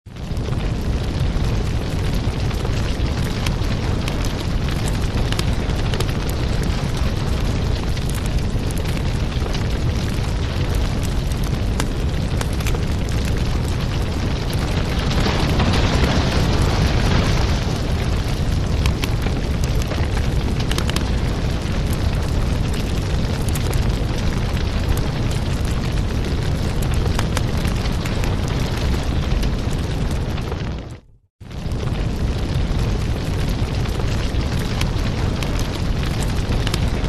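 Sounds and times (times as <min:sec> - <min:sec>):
wood fire crackling and popping: 0:00.1 - 0:37.0
low rumble: 0:00.2 - 0:37.0.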